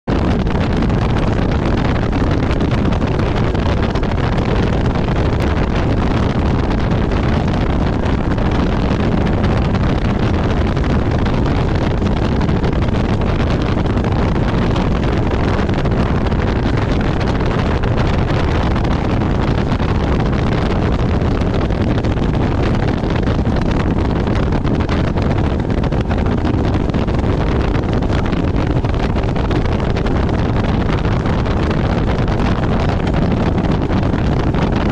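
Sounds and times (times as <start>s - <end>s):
wind buffeting microphone: 0.0s - 34.9s
boat hull on water: 0.1s - 34.9s
outboard motor: 0.1s - 34.9s.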